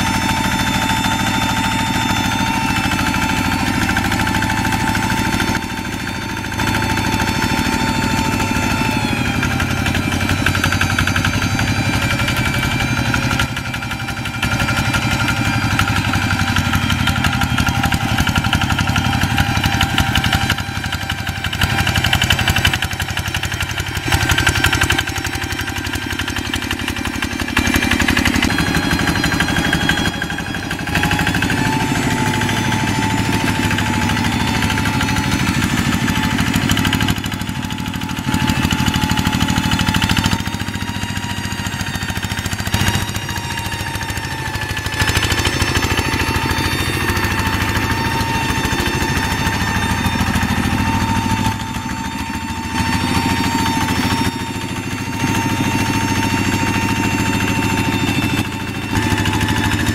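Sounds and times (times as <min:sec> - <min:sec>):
diesel hand tractor engines running: 0:00.0 - 0:59.9.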